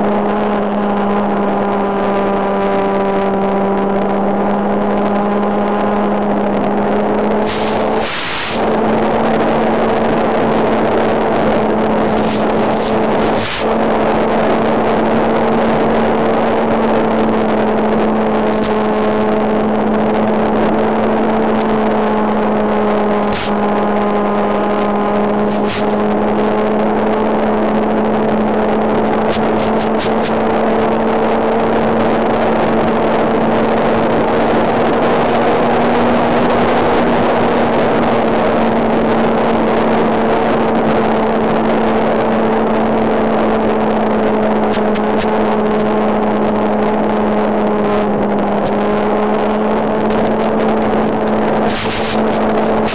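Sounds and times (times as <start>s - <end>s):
model airplane engine droning: 0.0s - 52.9s.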